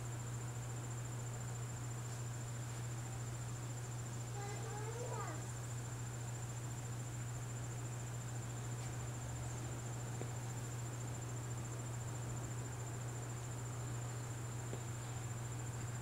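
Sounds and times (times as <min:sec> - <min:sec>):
constant low hum: 0:00.0 - 0:16.0
crickets trilling: 0:00.0 - 0:16.0.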